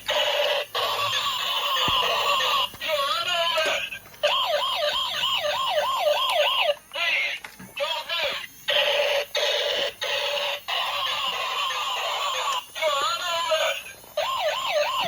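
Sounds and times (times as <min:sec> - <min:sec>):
toy police siren wailing: 0:00.1 - 0:15.0.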